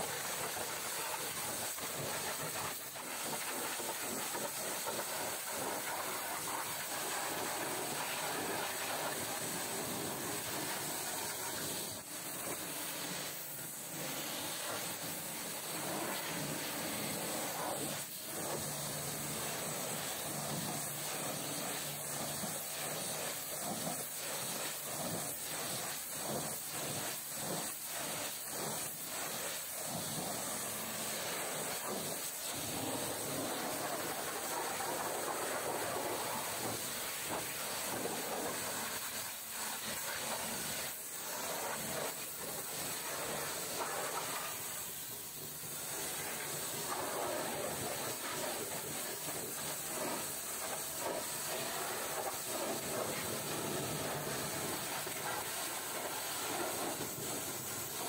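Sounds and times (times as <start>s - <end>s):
pressure washer spraying water: 0.0s - 58.0s.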